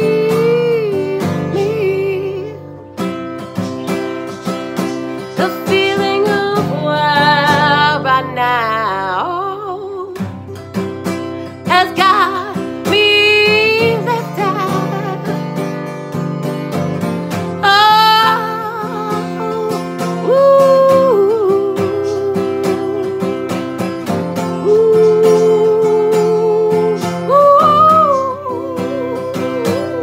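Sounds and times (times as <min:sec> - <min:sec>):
woman singing with vibrato: 0:00.0 - 0:02.8, 0:05.2 - 0:10.7, 0:11.4 - 0:15.9, 0:17.4 - 0:30.0
strummed acoustic guitar: 0:00.0 - 0:30.0.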